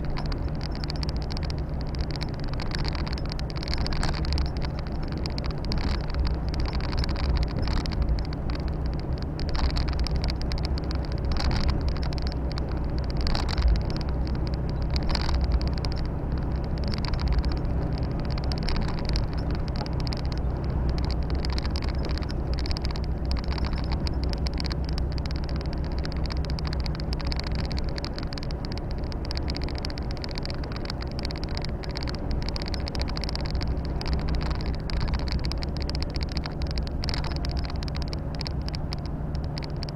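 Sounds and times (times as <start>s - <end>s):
road and tyre noise: 0.0s - 39.9s
truck diesel engine running: 0.0s - 39.9s.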